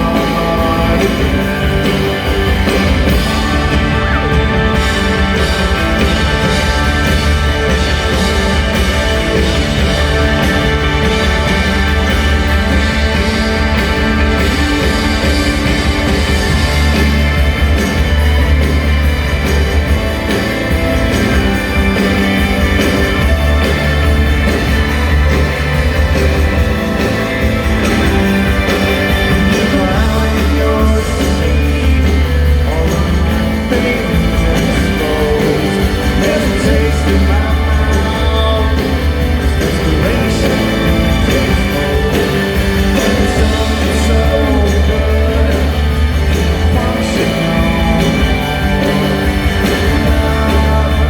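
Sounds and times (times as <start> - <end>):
drums: 0.0 - 51.0
heavy bass line: 0.0 - 51.0
person singing: 0.0 - 51.0
rock band playing live: 0.0 - 51.0.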